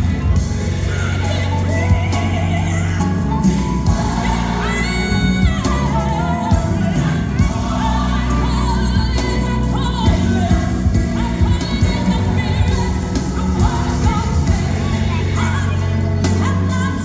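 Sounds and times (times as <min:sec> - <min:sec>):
bass line: 0:00.0 - 0:17.0
gospel song with lead vocal: 0:00.0 - 0:17.0.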